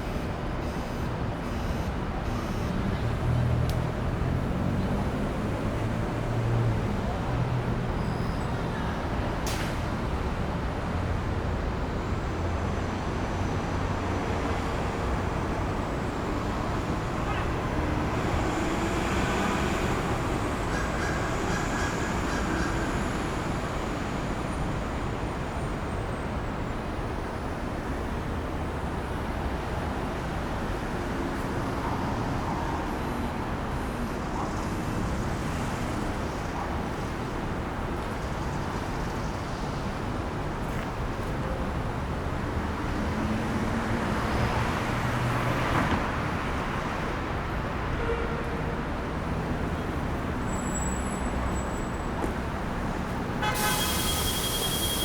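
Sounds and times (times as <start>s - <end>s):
traffic running past: 0.0s - 55.0s.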